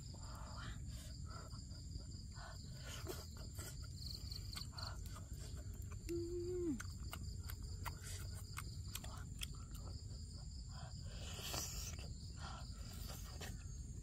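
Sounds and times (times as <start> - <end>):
insects calling: 0.0 - 14.0.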